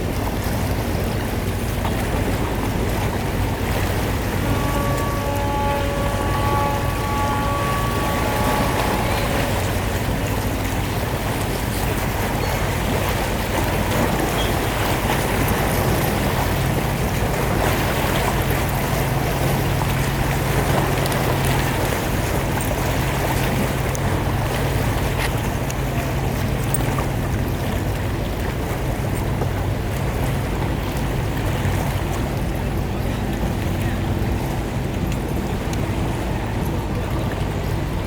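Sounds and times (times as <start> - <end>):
boat engine drone: 0.0 - 38.0
water wash: 0.0 - 38.0.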